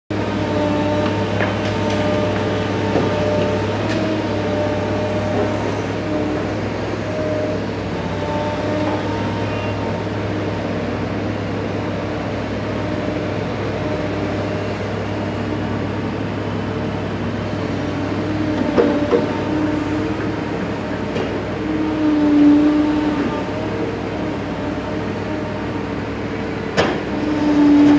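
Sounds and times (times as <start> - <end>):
diesel engine running: 0.1 - 27.9
hydraulic whine: 0.1 - 27.9.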